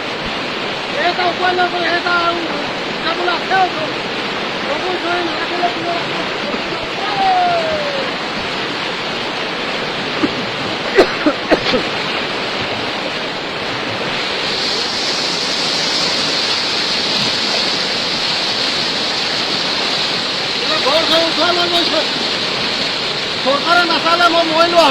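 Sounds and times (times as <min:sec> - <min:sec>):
floodwater rushing: 0:00.0 - 0:24.9.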